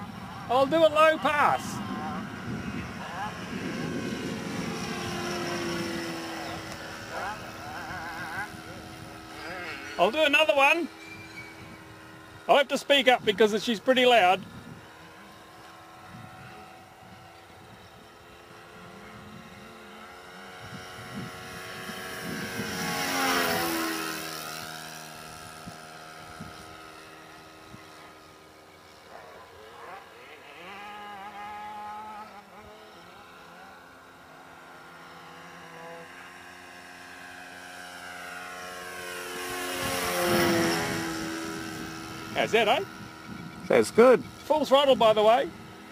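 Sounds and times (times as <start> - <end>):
model plane engine passing: 0.0 - 45.9.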